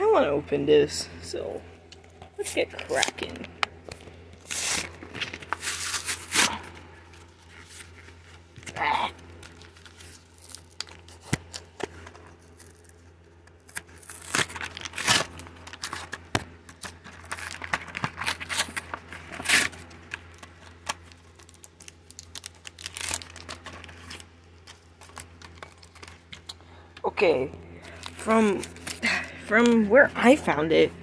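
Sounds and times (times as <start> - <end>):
plastic packaging tearing: 2.4 - 26.6, 27.8 - 29.8.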